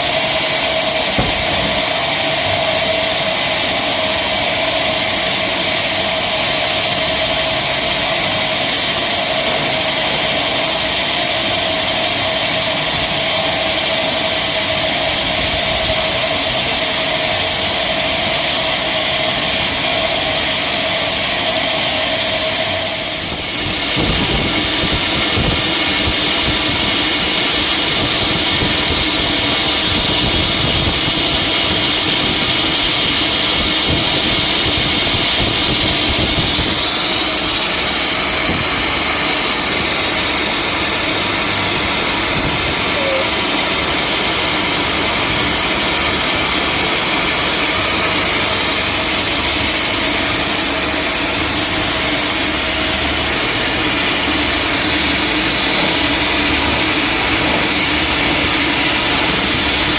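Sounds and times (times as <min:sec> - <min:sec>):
lower rough machine sound: 0:00.0 - 0:59.9
sawmill machinery whining: 0:00.0 - 0:59.9.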